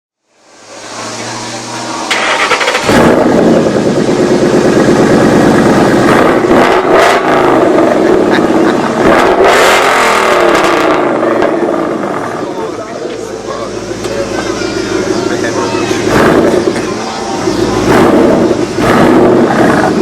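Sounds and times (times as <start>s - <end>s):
car engine revving: 0.3s - 20.0s.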